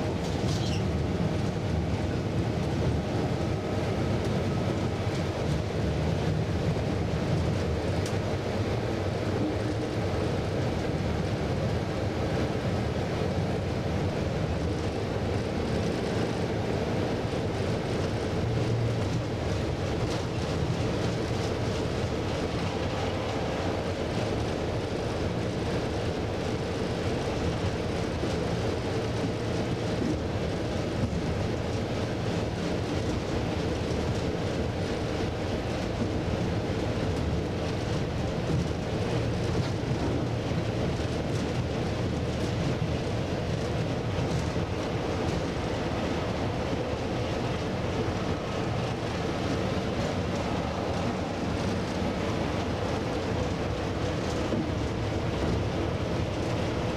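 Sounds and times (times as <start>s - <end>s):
diesel locomotive engine running: 0.0s - 56.9s
train wheels rumbling on rails: 0.0s - 56.9s.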